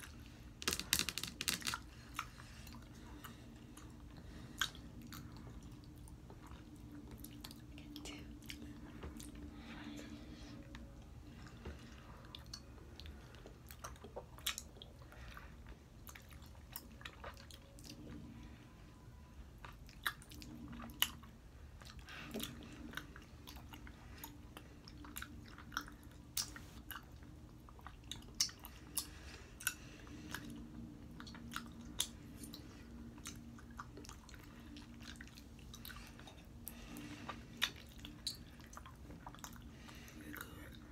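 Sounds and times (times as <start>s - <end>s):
wet chewing and smacking: 0.0s - 40.9s.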